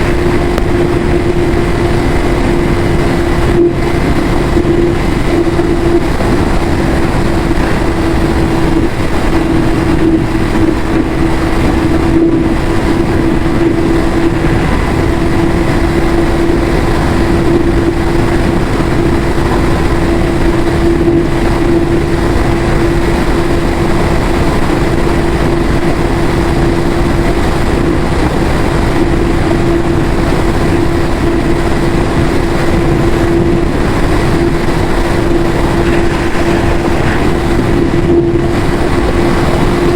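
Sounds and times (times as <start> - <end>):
loud rushing noise: 0.0 - 39.9
motorcycle engine running steadily: 0.0 - 39.9.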